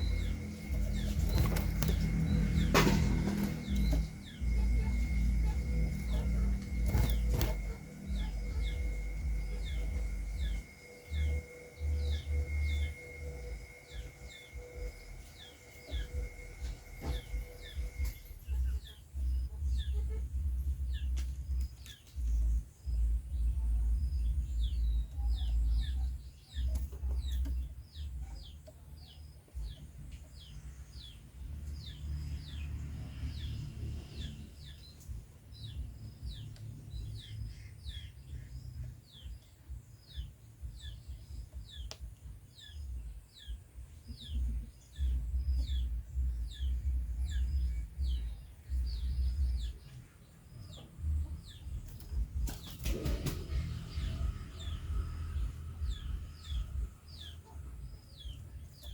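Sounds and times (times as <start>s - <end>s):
low rumbling noise: 0.0s - 58.9s.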